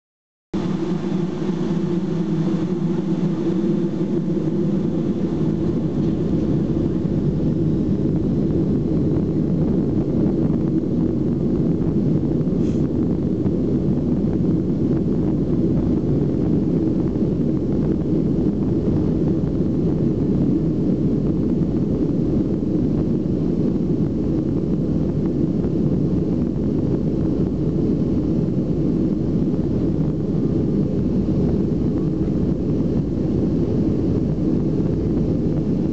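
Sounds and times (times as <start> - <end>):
airplane cabin takeoff rumble: 0.6 - 35.9.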